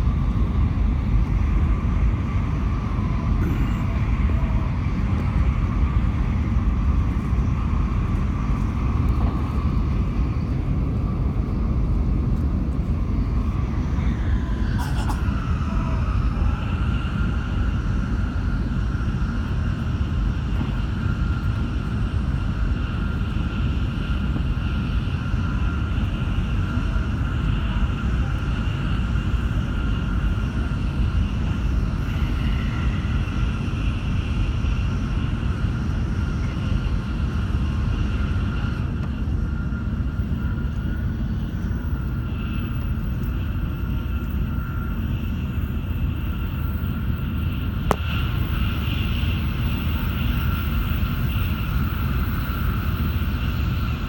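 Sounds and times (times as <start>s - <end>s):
train rumble and hiss: 0.0s - 54.0s
faint high whine: 1.3s - 11.3s, 11.9s - 54.0s.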